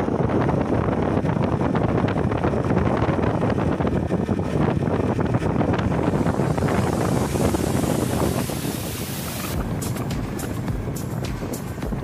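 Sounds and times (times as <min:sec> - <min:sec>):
wind buffeting microphone: 0:00.0 - 0:12.0
road noise: 0:01.0 - 0:12.0
scooter engine: 0:01.8 - 0:12.0.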